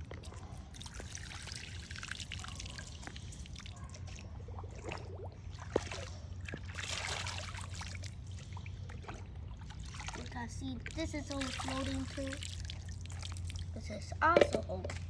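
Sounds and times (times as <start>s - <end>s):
water trickling and pouring: 0.0s - 14.2s.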